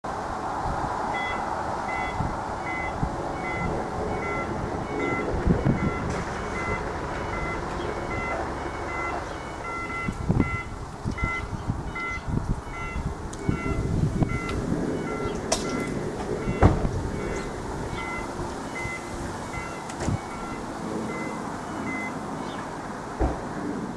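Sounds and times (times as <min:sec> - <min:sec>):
alternating high and low electronic beeps: 0:01.1 - 0:22.2.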